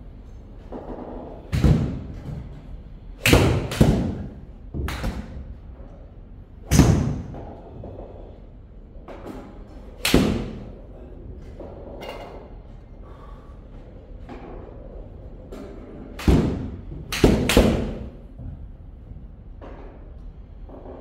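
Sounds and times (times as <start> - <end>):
sharp thuds in large room: 0.6 - 13.3, 14.2 - 21.0.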